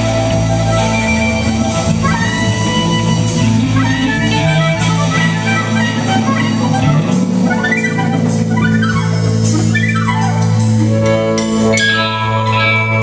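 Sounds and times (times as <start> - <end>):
blues band drums and guitar: 0.0 - 13.0
blues harmonica: 0.0 - 13.0.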